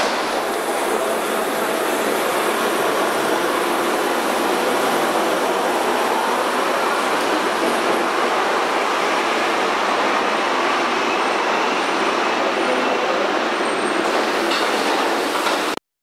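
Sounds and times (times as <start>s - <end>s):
wheels rumbling on rail: 0.0s - 15.8s.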